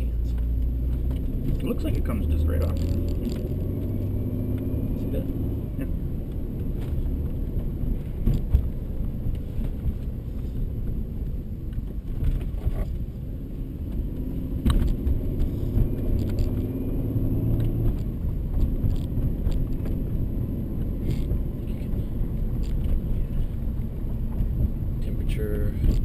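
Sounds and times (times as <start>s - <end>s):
car engine rumble inside cabin: 0.0s - 26.0s.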